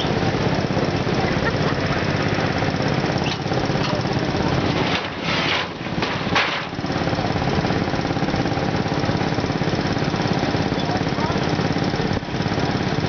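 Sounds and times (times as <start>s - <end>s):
small tractor engine rattling: 0.0s - 13.0s.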